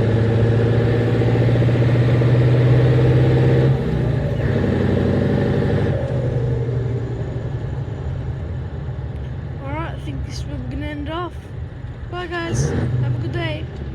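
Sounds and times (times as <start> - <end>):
truck diesel engine running: 0.0 - 13.9.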